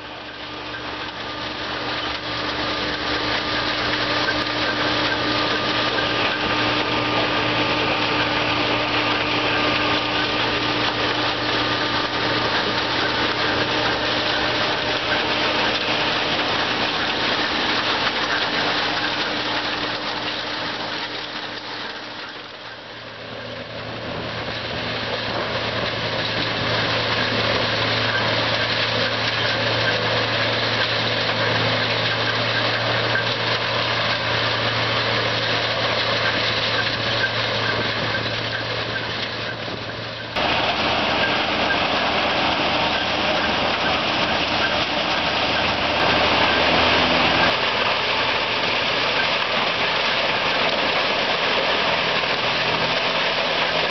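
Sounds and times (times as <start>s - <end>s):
grinder engine drone: 0.0s - 53.9s
wood being ground: 0.0s - 53.9s.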